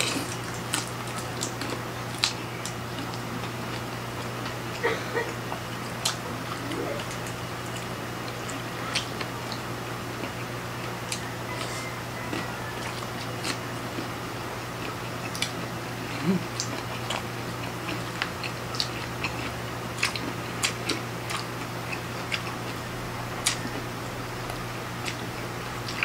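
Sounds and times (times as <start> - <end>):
people chewing: 0.0 - 26.0
steady low hum: 0.0 - 26.0.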